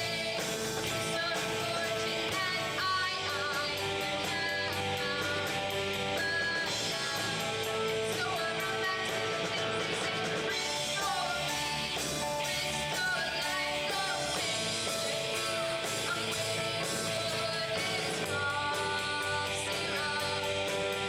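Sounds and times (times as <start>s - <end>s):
band playing a song: 0.0s - 21.0s
guitar: 0.0s - 21.0s.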